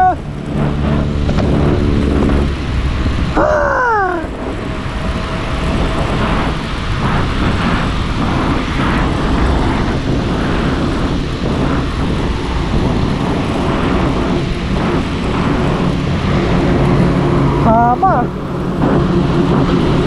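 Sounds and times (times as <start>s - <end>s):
road traffic noise: 0.0s - 20.0s
wind buffeting microphone: 0.0s - 20.0s.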